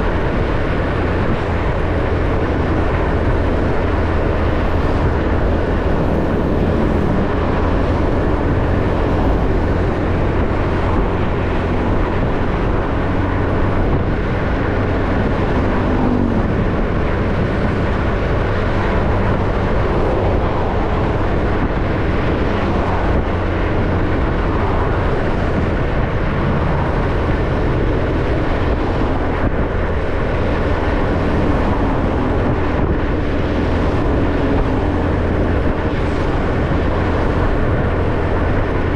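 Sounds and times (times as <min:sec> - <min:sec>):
tyre and wind noise: 0:00.0 - 0:38.9.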